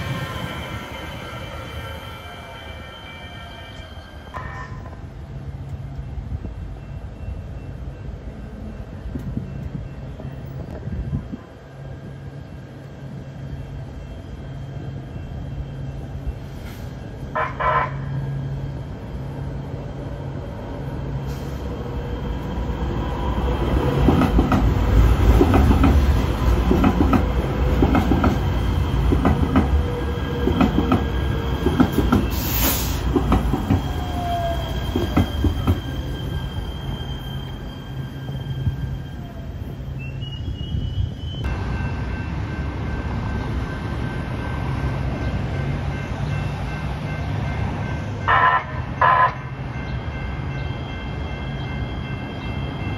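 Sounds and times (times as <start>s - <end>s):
train wheels rattling and squealing: 0.0s - 11.2s, 11.8s - 20.0s, 21.1s - 52.9s.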